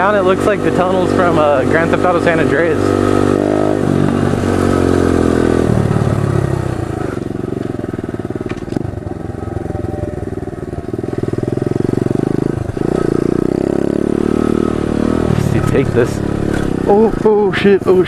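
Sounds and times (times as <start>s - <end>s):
pit bike engine running: 0.0s - 18.0s.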